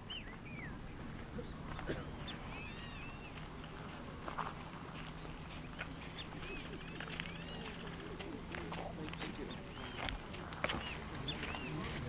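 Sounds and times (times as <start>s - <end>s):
high insect drone: 0.0s - 12.0s
wild birds chirping: 0.0s - 12.0s.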